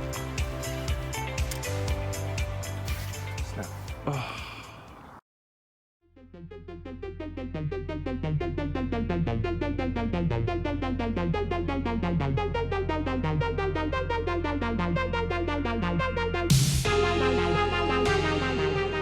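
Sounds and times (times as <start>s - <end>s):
synthesizer and electric piano music: 0.0s - 4.5s, 6.2s - 19.0s
music with a steady beat: 0.0s - 4.6s, 7.2s - 19.0s.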